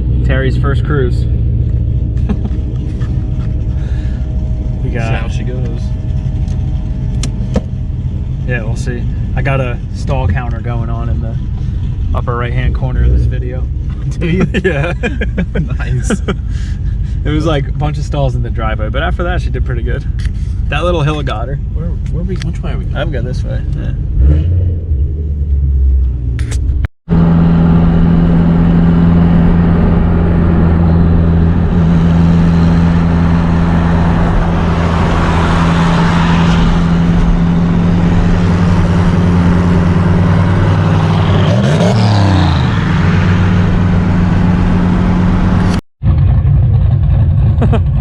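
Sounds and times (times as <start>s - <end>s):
car engine cruising: 0.0s - 48.0s
road noise: 0.0s - 48.0s.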